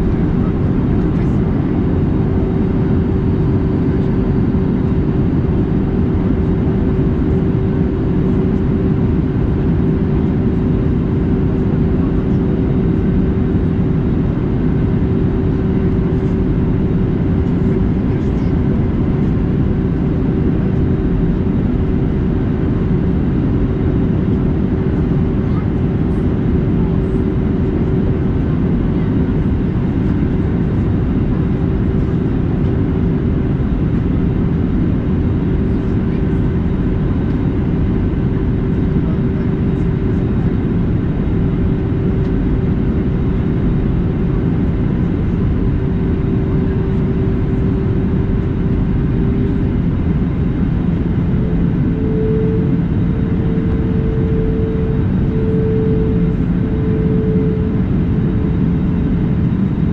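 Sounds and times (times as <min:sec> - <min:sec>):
airliner cabin engine rumble: 0:00.0 - 0:59.9
steady hum: 0:00.0 - 0:59.9.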